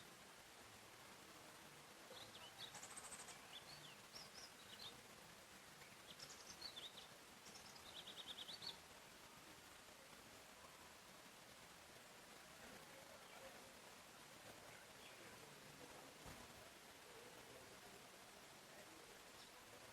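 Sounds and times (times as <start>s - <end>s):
background hiss: 0.0s - 19.9s
songbird chirps and trills: 0.0s - 19.9s.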